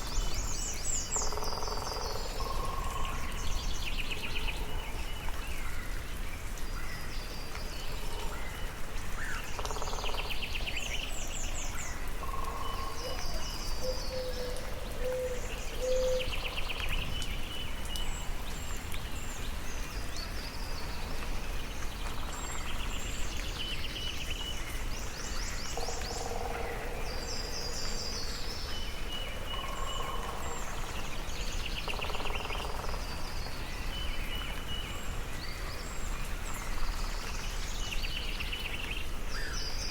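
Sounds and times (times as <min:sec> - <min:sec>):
soft rain hiss: 0:00.0 - 0:39.9
songbirds singing: 0:00.0 - 0:39.9.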